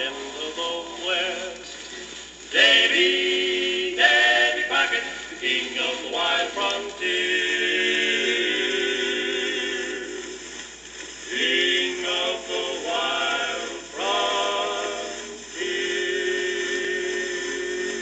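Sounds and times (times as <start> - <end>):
voices singing long chords on record: 0.0 - 18.0.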